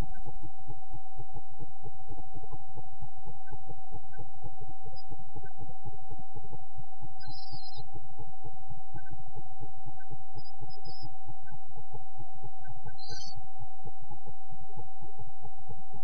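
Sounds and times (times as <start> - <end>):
faint high chirps: 1.9 - 16.0.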